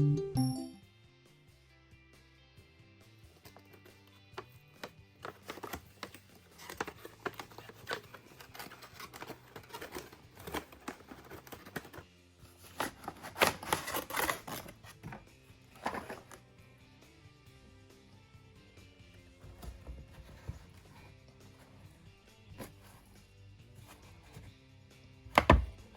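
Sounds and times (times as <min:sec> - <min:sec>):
quiet background music: 0:00.0 - 0:25.9.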